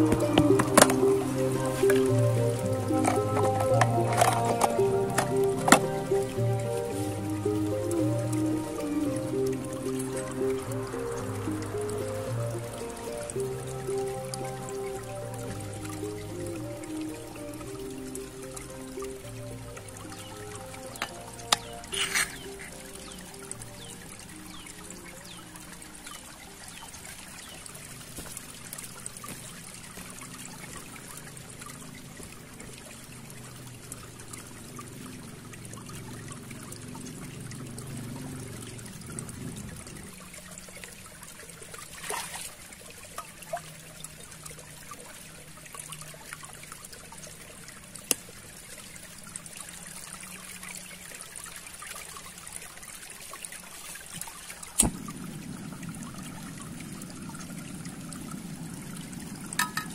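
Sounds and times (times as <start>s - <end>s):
stream trickling over rocks: 0.0s - 59.9s.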